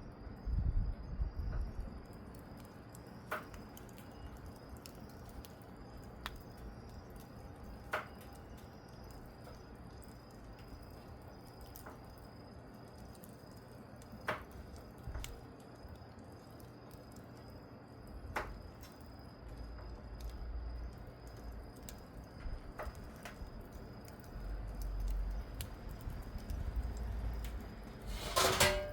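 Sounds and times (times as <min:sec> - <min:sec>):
wood fire pops and crackles: 0:00.2 - 0:28.9.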